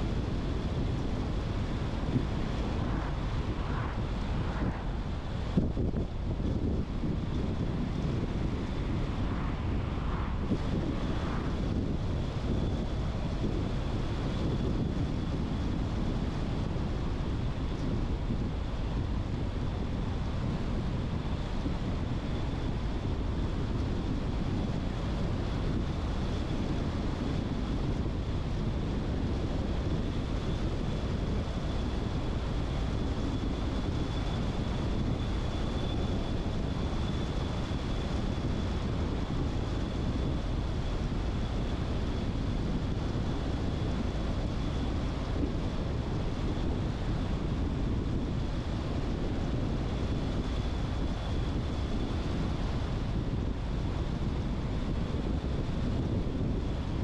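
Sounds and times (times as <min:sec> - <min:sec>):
tyre and wind noise: 0:00.0 - 0:57.0.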